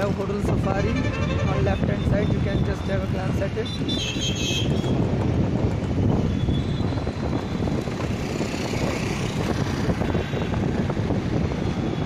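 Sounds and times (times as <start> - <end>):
vehicle road rumble: 0.0 - 12.0
wind buffeting microphone: 0.0 - 12.0.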